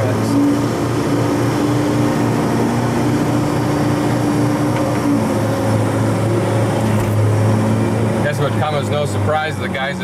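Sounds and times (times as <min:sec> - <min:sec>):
heavy diesel engine droning: 0:00.0 - 0:10.0
higher engine tone: 0:00.0 - 0:10.0.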